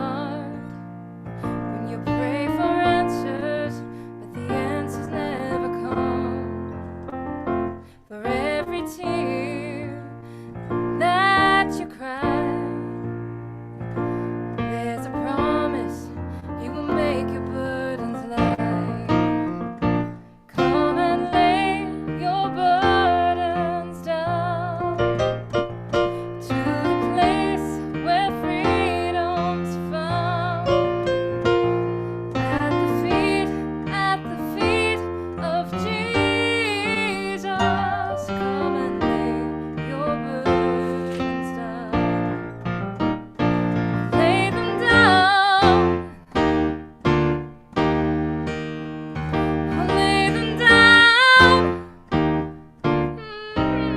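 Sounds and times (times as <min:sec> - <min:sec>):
piano music: 0:00.0 - 0:53.9.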